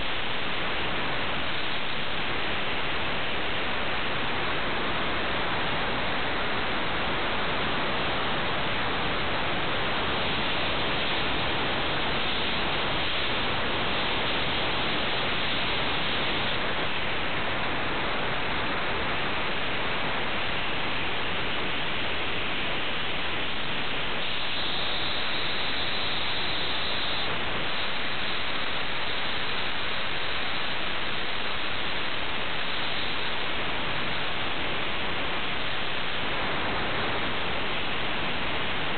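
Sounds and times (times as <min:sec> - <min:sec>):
static-like hiss: 0:00.0 - 0:38.9.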